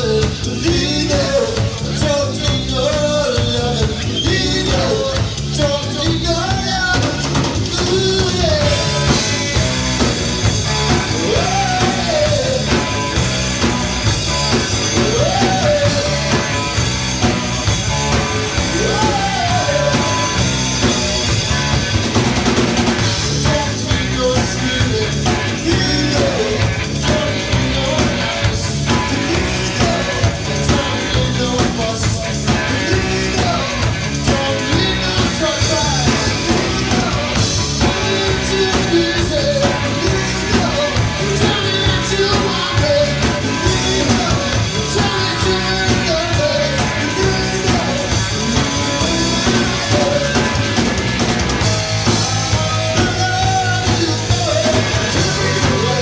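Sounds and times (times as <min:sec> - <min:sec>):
rock band playing live: 0:00.0 - 0:56.0
steady drum beat: 0:00.0 - 0:56.0.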